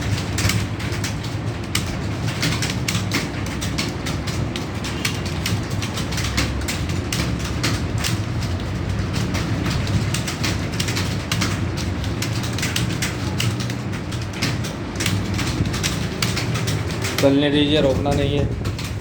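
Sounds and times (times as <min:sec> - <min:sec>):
computer keyboards clattering: 0:00.0 - 0:19.0.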